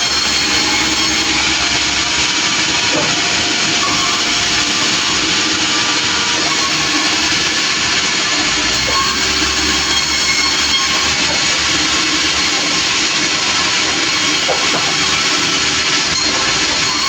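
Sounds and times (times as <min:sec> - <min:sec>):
faint sustained hum: 0:00.0 - 0:17.0
sawmill machinery running: 0:00.0 - 0:17.0.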